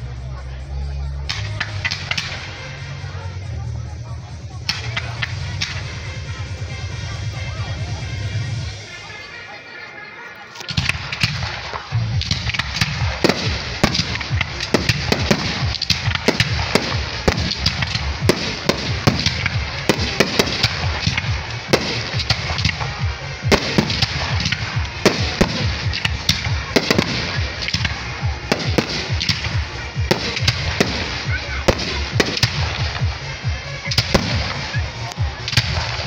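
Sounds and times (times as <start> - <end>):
fireworks crackling: 0.0 - 36.0
fireworks bursts and bangs: 1.3 - 8.9, 10.6 - 36.0.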